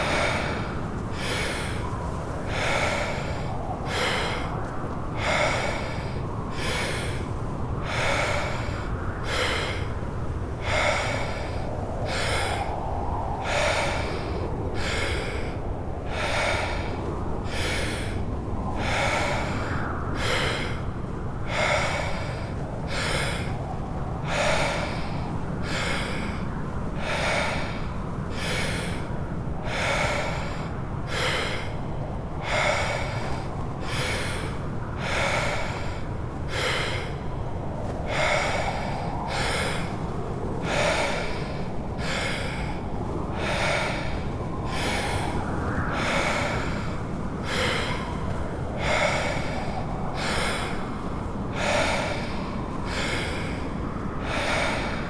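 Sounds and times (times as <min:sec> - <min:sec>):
deep rhythmic breathing: 0:00.0 - 0:55.0
low rumble of wind: 0:00.0 - 0:55.0.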